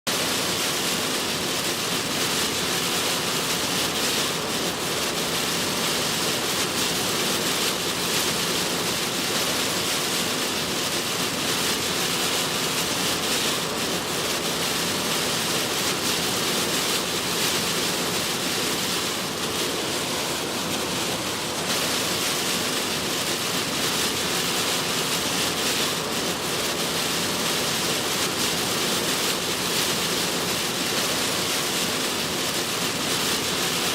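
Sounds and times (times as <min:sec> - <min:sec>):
heavy rain on a moving car: 0:00.1 - 0:33.9.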